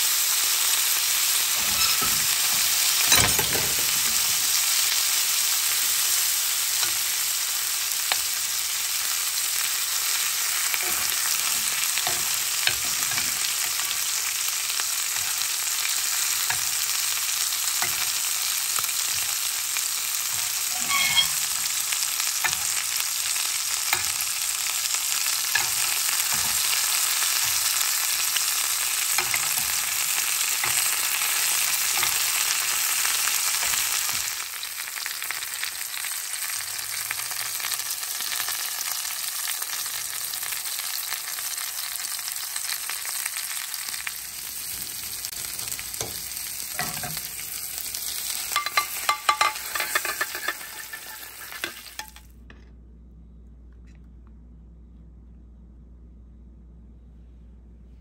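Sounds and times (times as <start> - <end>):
butter sizzling in a pan: 0.0 - 52.3.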